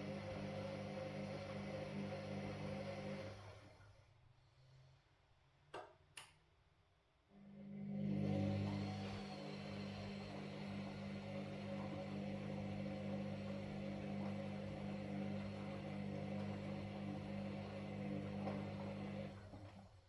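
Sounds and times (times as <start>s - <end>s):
washing machine running: 0.0s - 4.0s, 7.5s - 20.0s.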